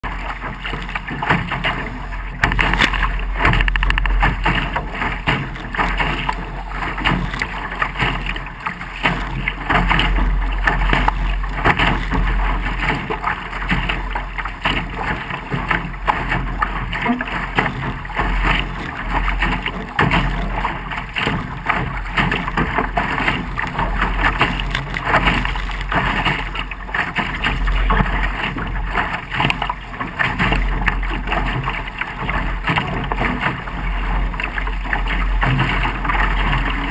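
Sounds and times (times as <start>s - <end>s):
water rushing and splashing: 0.0s - 36.9s.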